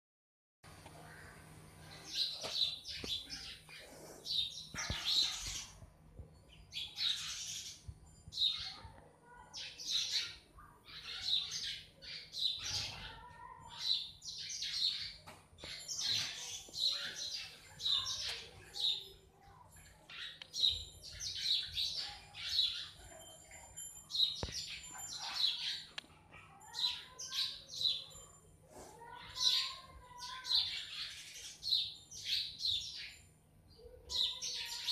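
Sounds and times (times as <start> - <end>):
sparrows chirping: 0.9 - 34.9.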